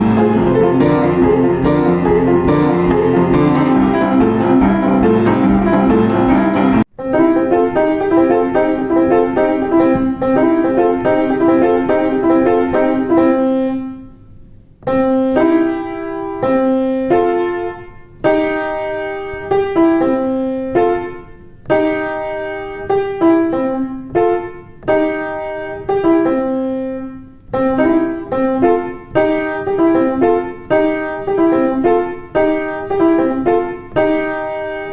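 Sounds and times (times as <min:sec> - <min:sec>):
boogie woogie piano: 0:00.0 - 0:34.9.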